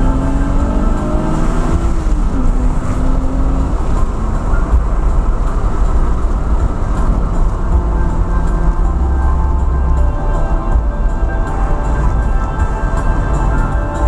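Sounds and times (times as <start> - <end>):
car road and engine noise: 0.0 - 14.0
faint car stereo music: 0.0 - 14.0.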